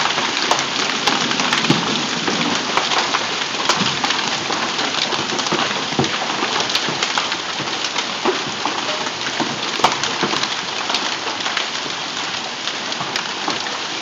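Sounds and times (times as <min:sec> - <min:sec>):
hail and rain hissing: 0:00.0 - 0:14.0
hailstones hitting surfaces: 0:00.0 - 0:14.0.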